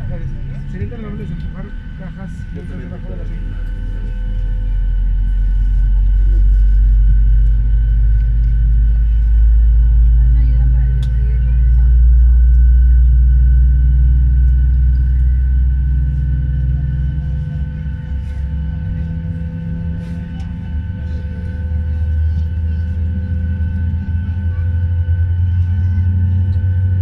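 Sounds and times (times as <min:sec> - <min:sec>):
jet engine low rumble: 0:00.0 - 0:27.0
steady whining tones: 0:00.0 - 0:27.0.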